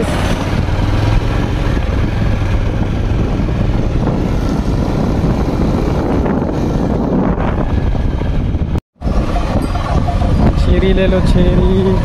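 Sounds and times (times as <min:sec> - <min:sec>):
engine droning: 0:00.0 - 0:12.0
vehicle rushing noise: 0:00.0 - 0:12.0.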